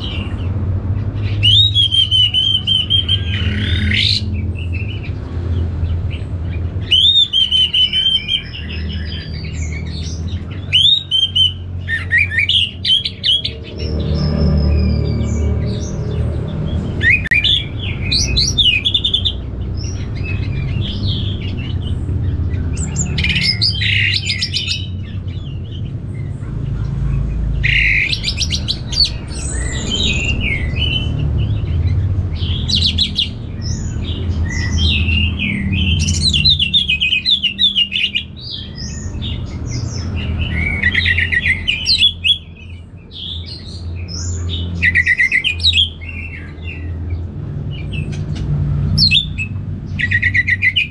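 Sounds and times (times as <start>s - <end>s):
bird singing whistles and trills: 1.2s - 5.1s, 6.1s - 25.9s, 27.6s - 47.0s, 48.9s - 50.9s.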